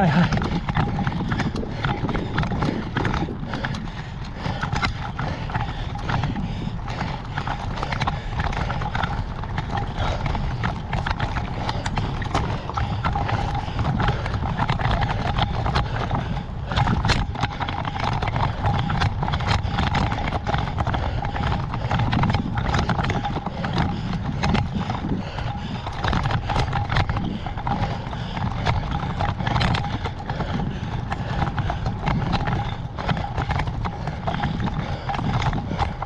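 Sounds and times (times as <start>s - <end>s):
sharp clicks and knocks: 0.0s - 36.0s
steady low rumble: 0.0s - 36.0s.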